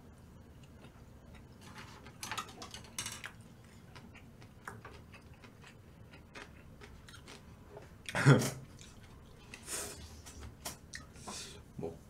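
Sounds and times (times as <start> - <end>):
food being chewed: 0.6 - 11.2.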